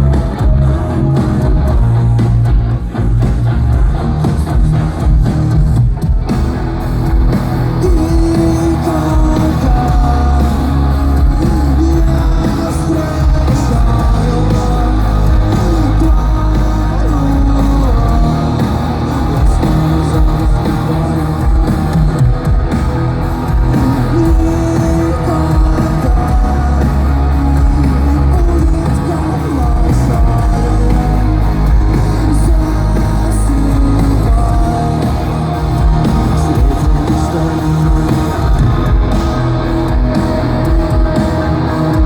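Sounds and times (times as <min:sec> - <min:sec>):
bass guitar: 0:00.0 - 0:42.0
drums: 0:00.0 - 0:42.0
electric guitars: 0:00.0 - 0:42.0
person singing: 0:07.7 - 0:42.0.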